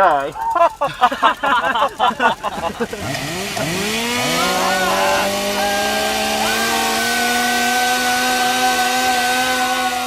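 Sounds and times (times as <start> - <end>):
chainsaw at high revs: 0.8 - 10.0.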